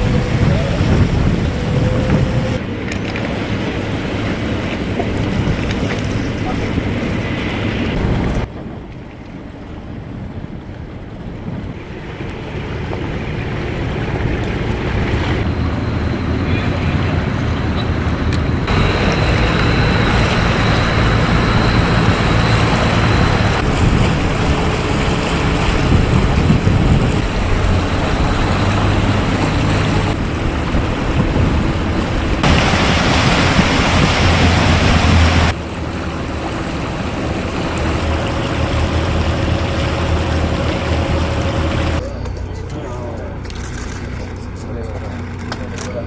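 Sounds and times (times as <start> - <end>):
wind buffeting microphone: 0.0 - 42.0
low engine hum: 0.0 - 46.0
moving water: 0.0 - 46.0.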